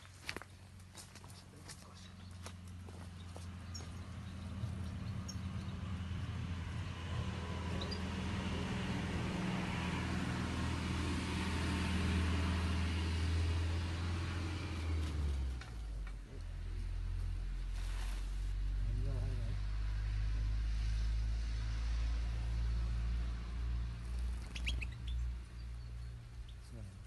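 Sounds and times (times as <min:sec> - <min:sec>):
vehicle engine drone passing: 0:00.0 - 0:27.0.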